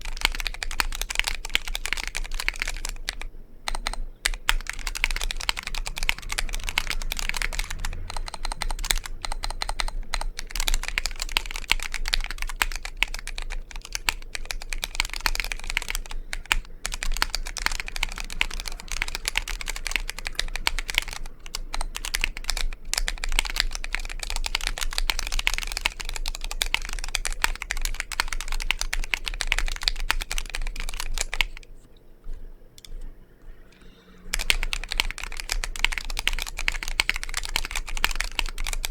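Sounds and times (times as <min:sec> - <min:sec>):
mechanical keyboard typing: 0:00.0 - 0:31.7, 0:34.3 - 0:38.9.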